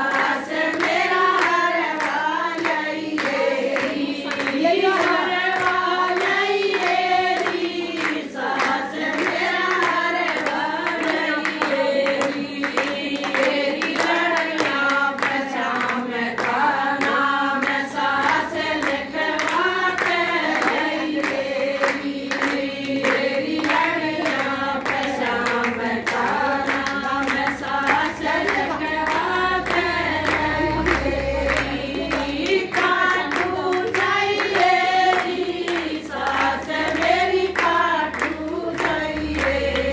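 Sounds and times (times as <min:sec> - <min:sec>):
rhythmic hand clapping: 0:00.0 - 0:39.9
women singing devotional song: 0:00.0 - 0:39.9.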